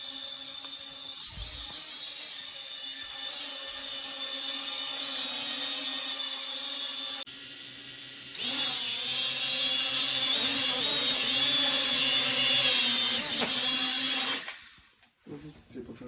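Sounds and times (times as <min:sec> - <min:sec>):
drone propellers whining: 0:00.0 - 0:14.6.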